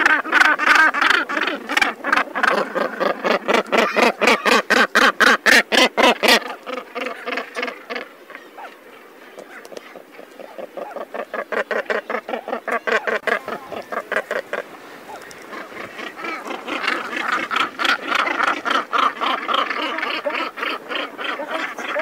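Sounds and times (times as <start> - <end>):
seabirds calling harshly: 0.0 - 22.0.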